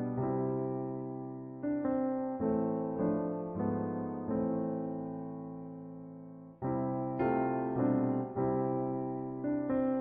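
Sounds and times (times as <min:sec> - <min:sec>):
slow solo piano: 0:00.0 - 0:10.0.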